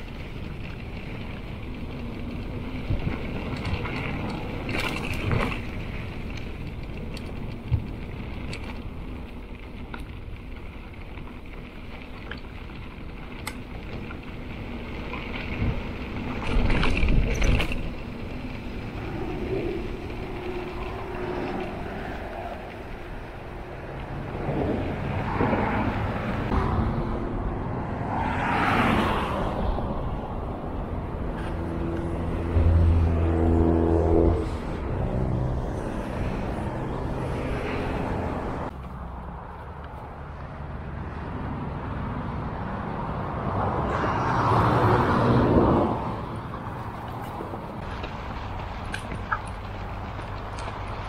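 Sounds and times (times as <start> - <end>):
engine hum: 0.0 - 51.0
tyres on dirt trail: 0.0 - 51.0.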